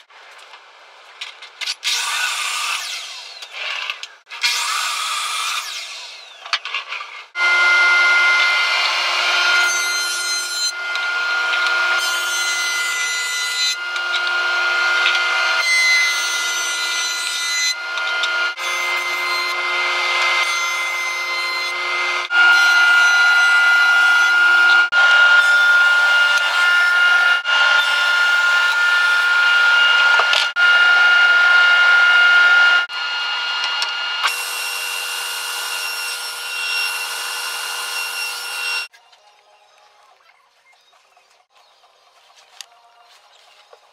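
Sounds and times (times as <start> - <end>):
woodworking saws cutting boards: 1.7 - 39.0.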